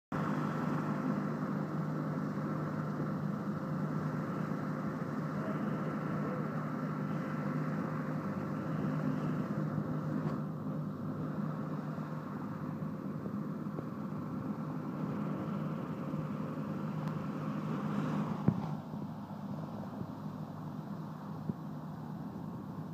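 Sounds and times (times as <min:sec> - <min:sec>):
helicopter engine drone: 0:00.2 - 0:22.9.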